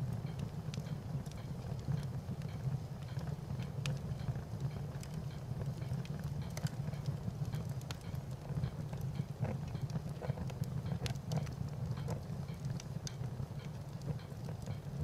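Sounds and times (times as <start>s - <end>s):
fire burning: 0.0s - 15.0s
fire crackles and pops: 0.0s - 15.0s.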